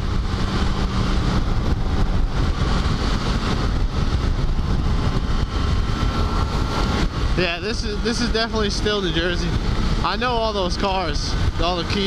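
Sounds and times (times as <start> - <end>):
motorcycle engine drone: 0.0 - 12.0
wind rushing on microphone: 0.0 - 12.0.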